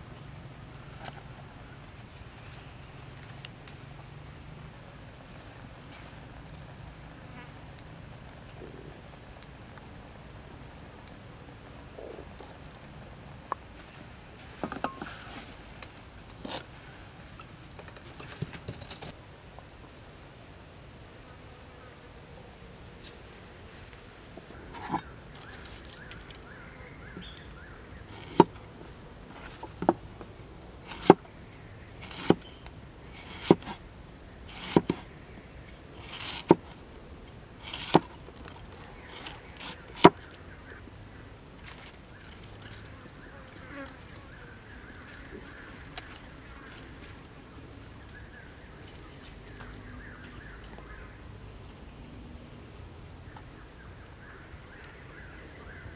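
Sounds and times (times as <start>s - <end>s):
thin high whine: 0.0s - 51.2s
insects buzzing: 0.0s - 51.3s.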